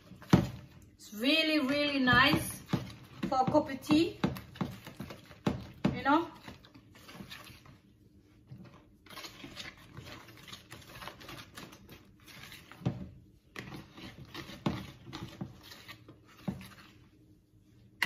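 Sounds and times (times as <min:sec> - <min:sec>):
whisk knocking bowl: 0:00.0 - 0:00.9, 0:01.7 - 0:07.8, 0:08.6 - 0:17.0
whisk beating batter in bowl: 0:00.0 - 0:18.0.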